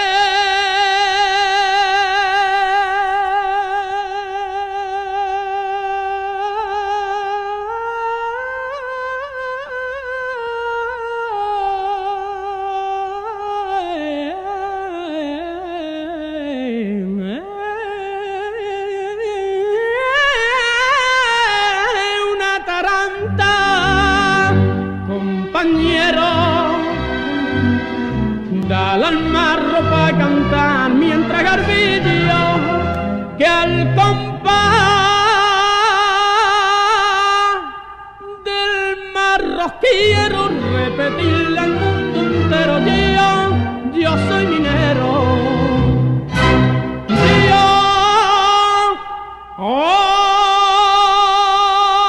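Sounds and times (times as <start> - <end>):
solo voice singing with vibrato: 0.0 - 27.6, 28.6 - 46.0.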